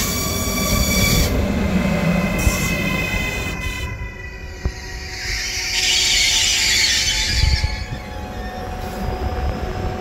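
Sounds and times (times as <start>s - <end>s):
electric train rumble and hum: 0.0s - 10.0s.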